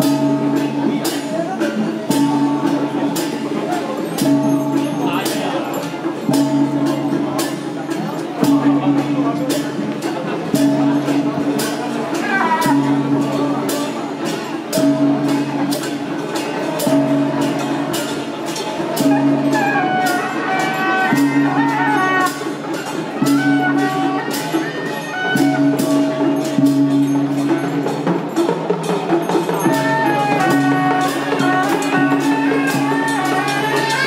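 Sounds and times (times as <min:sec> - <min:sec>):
percussion strikes: 0:00.0 - 0:34.0.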